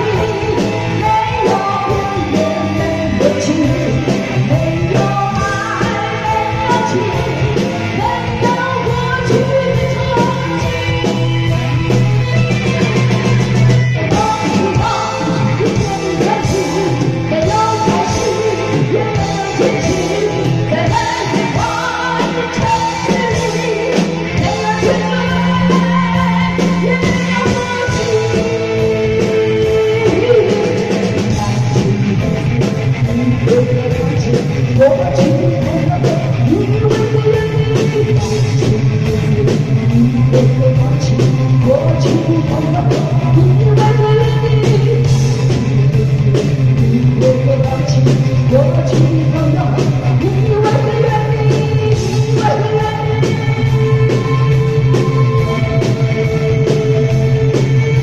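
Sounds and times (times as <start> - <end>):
woman singing into microphone: 0.0 - 11.9, 12.9 - 45.8, 46.7 - 58.0
live band with guitar and keyboard: 0.0 - 58.0.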